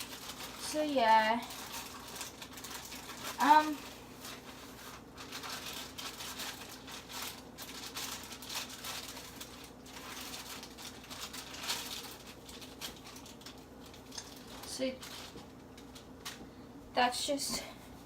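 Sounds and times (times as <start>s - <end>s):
packet rustling and crinkling: 0.0s - 16.5s.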